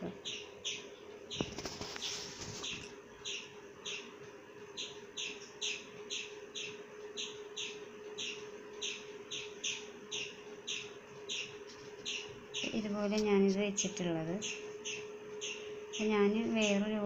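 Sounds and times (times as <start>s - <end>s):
steady hum: 0.0s - 17.0s
bird chirping: 0.2s - 1.6s, 2.6s - 12.8s, 14.4s - 16.8s.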